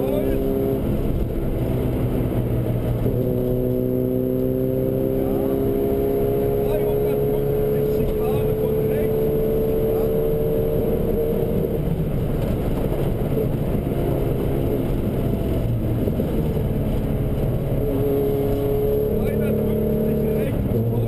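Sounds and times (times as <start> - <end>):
car engine running hard: 0.0 - 21.0
road and tyre noise: 0.0 - 21.0.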